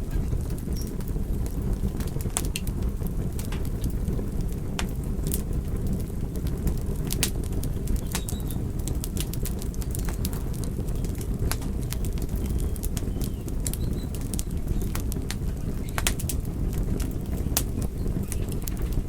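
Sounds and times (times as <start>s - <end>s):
fire burning low rumble: 0.0s - 19.0s
logs crackling and popping: 0.0s - 19.0s.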